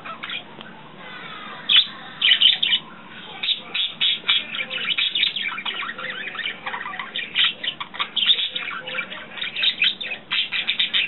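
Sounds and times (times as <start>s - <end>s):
budgies chattering and chirping: 0.0s - 11.0s.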